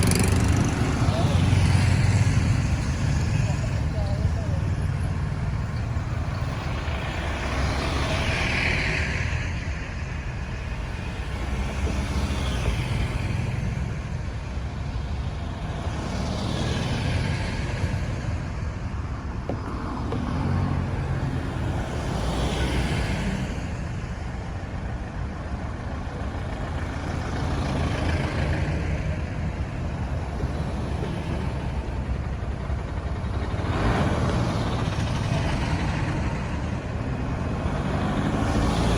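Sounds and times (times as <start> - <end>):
traffic rumble: 0.0 - 38.9.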